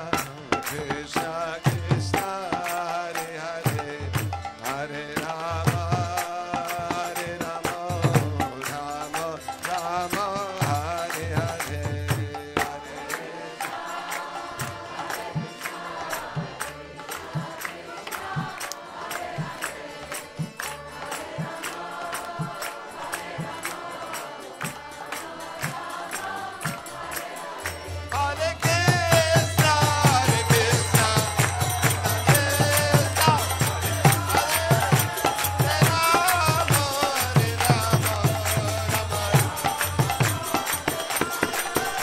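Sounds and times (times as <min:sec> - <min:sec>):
voices chanting a mantra: 0:00.0 - 0:42.0.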